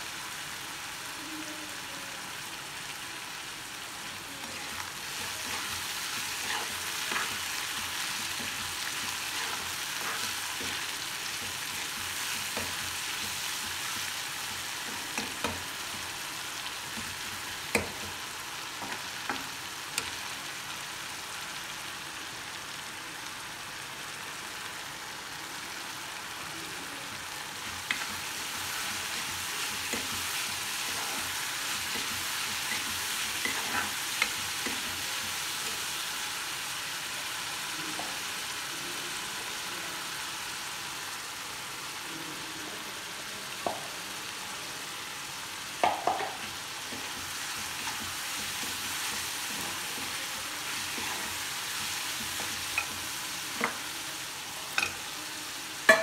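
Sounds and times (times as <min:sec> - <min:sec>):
masala sizzling in pan: 0:00.0 - 0:56.0.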